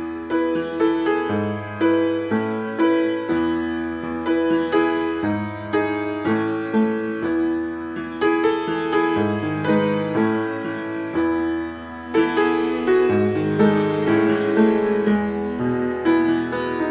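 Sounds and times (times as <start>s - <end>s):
gentle piano music: 0.0s - 16.9s.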